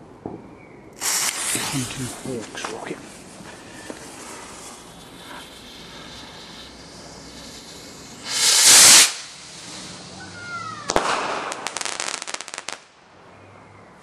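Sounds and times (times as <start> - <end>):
firework bang: 1.0 - 12.8
firework rocket whoosh: 1.0 - 12.8.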